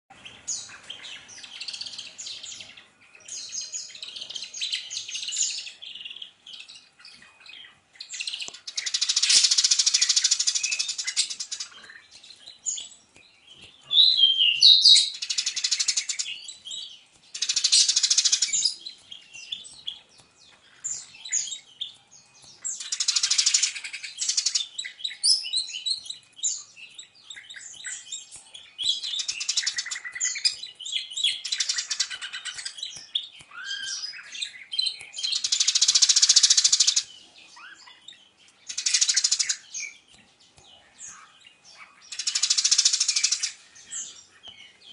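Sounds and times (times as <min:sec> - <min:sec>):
bird chirps and twitters: 0:00.1 - 0:44.9
birds harsh rapid chatter: 0:00.1 - 0:44.9.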